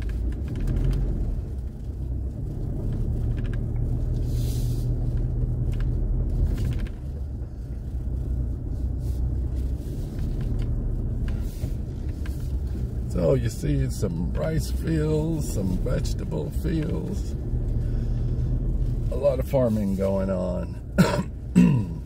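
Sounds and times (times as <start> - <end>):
truck driving on gravel: 0.0 - 22.0.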